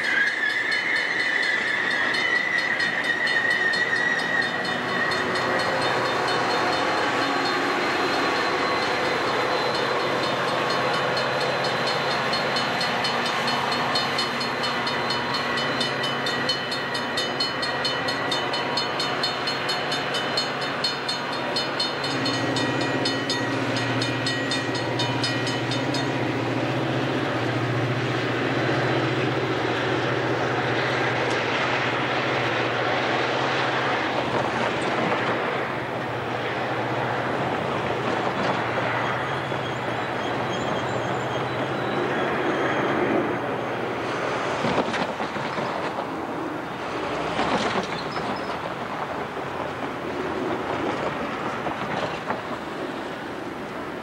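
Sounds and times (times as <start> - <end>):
diesel locomotive engine drone: 0.0 - 54.0
wheel on rail noise: 0.0 - 54.0.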